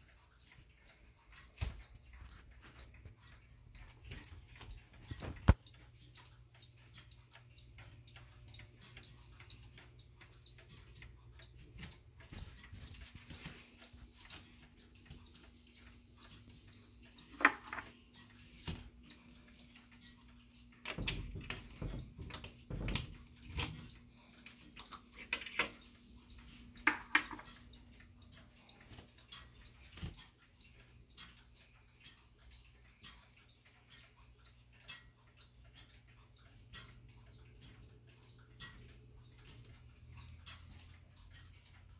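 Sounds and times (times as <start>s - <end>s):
clock ticking: 0.0s - 41.9s.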